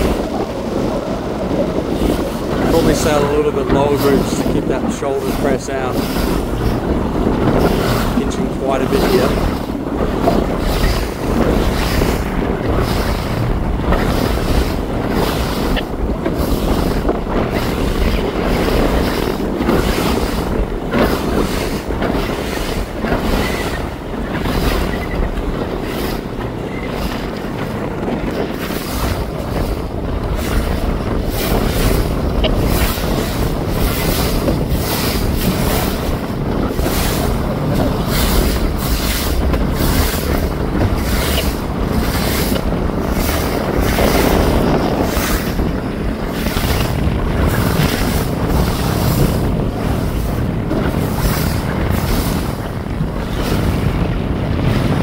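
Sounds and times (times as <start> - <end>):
water rushing along boat hull: 0.0 - 55.0
wind buffeting microphone: 0.0 - 55.0.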